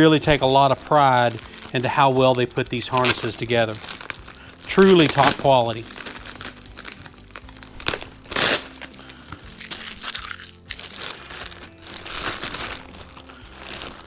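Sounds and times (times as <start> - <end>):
faint background music: 0.0 - 14.0
plastic bag crinkling: 0.0 - 14.0.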